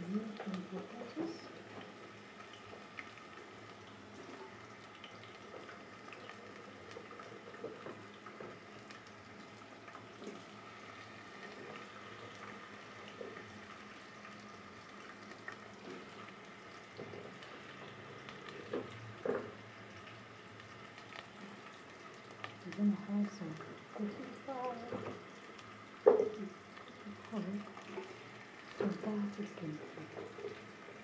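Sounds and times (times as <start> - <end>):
potatoes sizzling in oil: 0.0 - 31.0.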